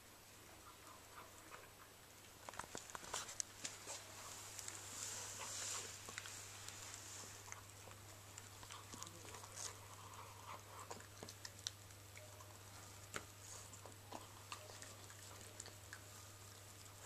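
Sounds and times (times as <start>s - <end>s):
dog chewing wet food: 1.2s - 17.0s.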